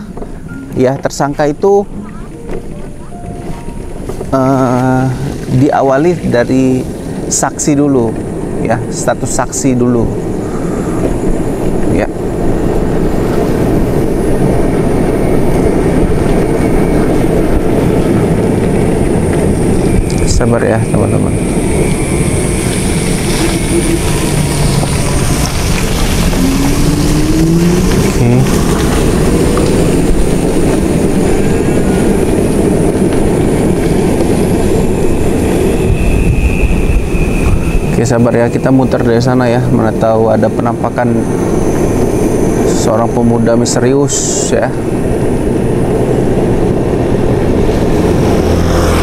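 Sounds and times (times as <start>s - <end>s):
motorcycle engine drone: 0.0s - 49.0s
wind rumble on microphone: 0.0s - 49.0s.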